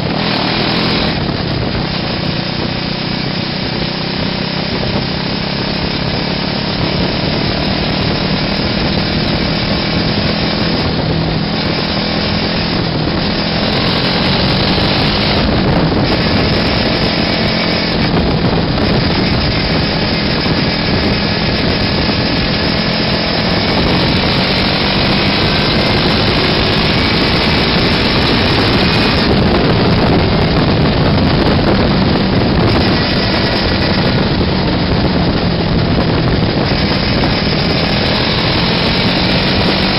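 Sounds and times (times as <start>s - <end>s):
small engine running while driving: 0.0s - 39.9s.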